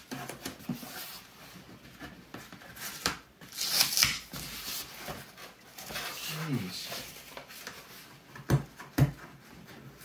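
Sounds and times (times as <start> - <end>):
cardboard and tape rustling: 0.0 - 10.0.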